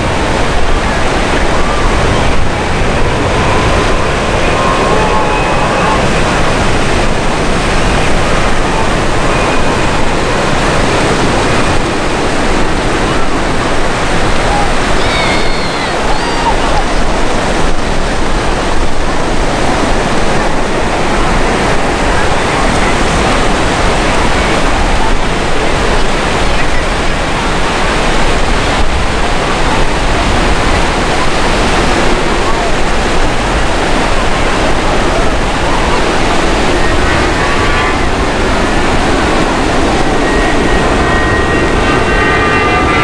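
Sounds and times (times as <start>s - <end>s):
jet engines roaring in flight: 0.0s - 43.0s.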